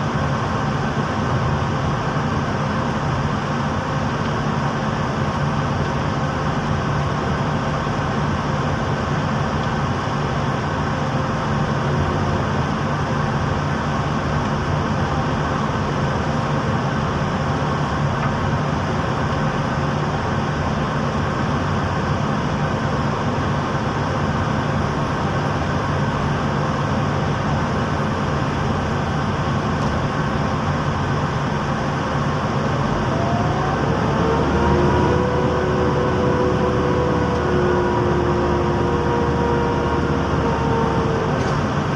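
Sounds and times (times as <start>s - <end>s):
engine droning: 0.0s - 41.9s.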